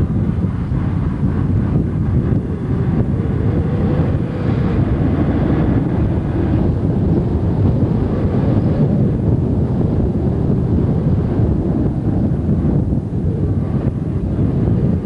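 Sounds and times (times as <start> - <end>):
car driving rumble: 0.0 - 15.0
wind buffeting microphone: 0.0 - 15.0.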